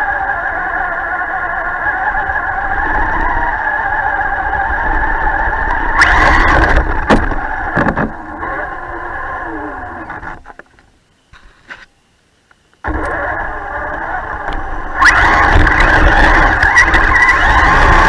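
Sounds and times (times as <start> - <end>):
electric motor whining: 0.0 - 10.5, 12.8 - 18.0.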